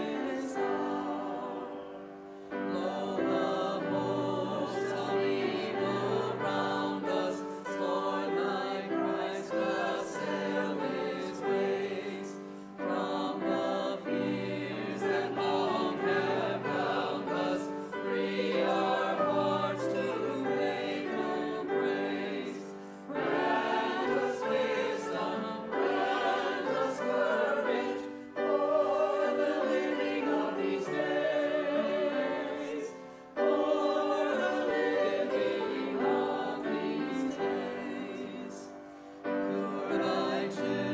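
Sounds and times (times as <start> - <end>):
choir singing a hymn: 0.0 - 40.9
musical accompaniment: 0.0 - 40.9.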